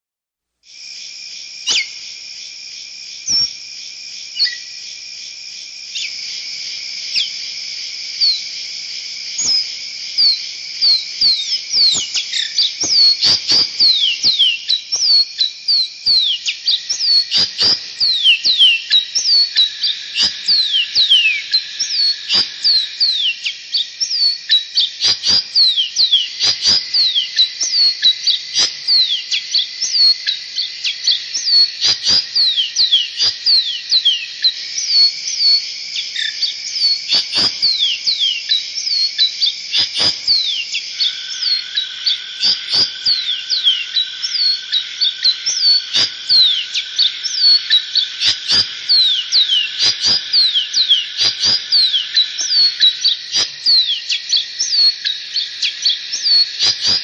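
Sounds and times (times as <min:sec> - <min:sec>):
high-pitched ringing drone: 0:09.3 - 0:57.0
songbirds chirping: 0:09.4 - 0:57.0.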